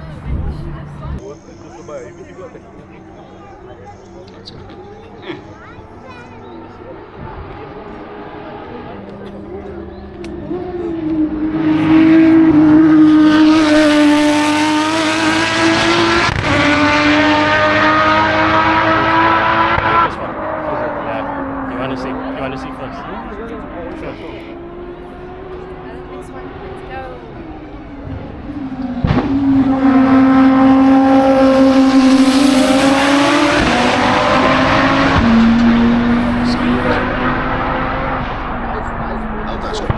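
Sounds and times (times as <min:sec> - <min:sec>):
race car engine at high revs: 0:02.3 - 0:39.9.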